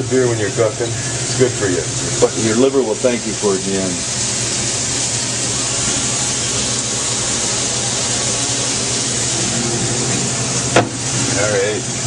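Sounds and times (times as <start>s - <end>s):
burgers sizzling in a frying pan: 0.0s - 12.0s.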